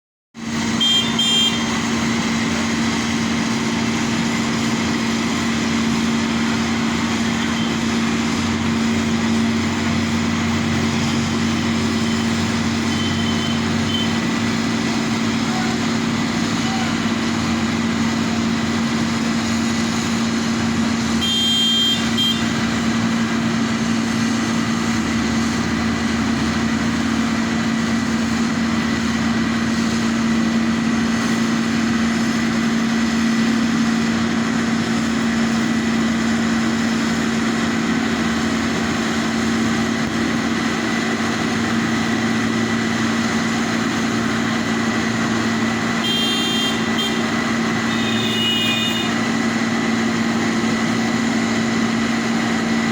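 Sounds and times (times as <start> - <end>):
heavy engine humming steadily: 0.4 - 52.9.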